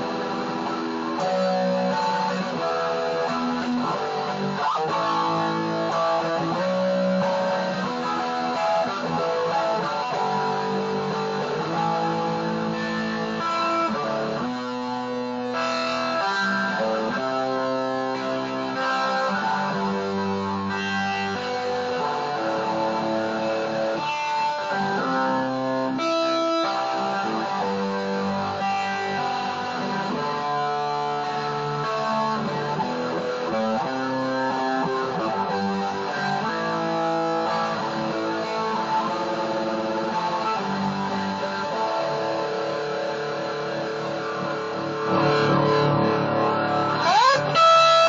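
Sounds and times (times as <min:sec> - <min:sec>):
electric guitar notes and chords: 0:00.0 - 0:48.0
scraping guitar strum: 0:00.0 - 0:48.0.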